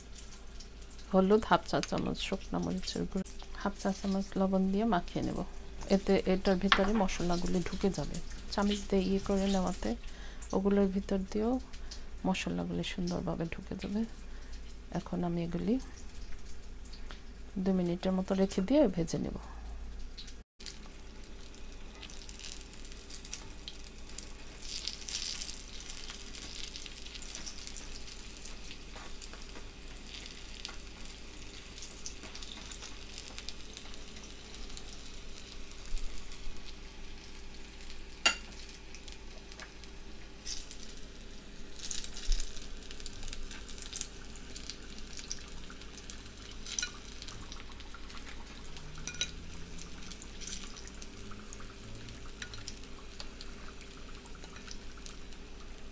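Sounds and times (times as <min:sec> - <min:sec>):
oil crackles and spatters: 0:00.0 - 0:12.2, 0:12.9 - 0:17.6, 0:19.8 - 0:55.9
potato slices deep-frying: 0:00.0 - 0:19.4, 0:20.0 - 0:55.9.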